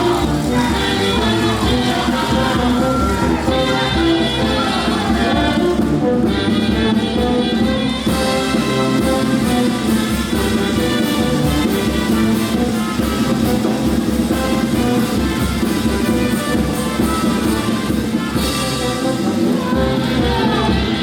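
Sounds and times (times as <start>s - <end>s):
brass band playing dance music: 0.0s - 21.0s
trumpets and trombones: 0.0s - 21.0s.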